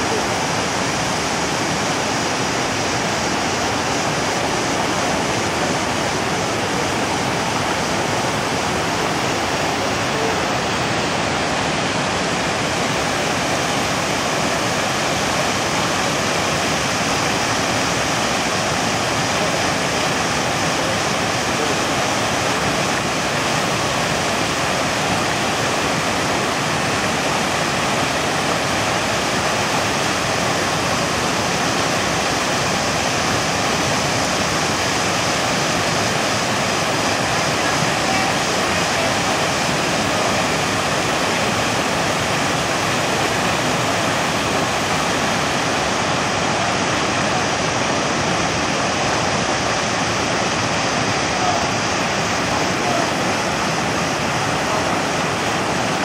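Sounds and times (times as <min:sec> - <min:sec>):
river rapids rushing over boulders: 0:00.0 - 0:56.0.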